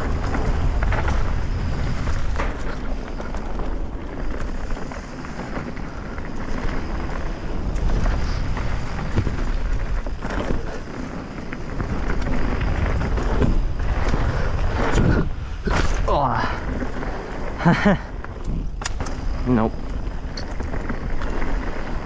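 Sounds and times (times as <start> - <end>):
bike tyres rolling on dirt: 0.0 - 22.0
wind buffeting microphone: 0.0 - 22.0.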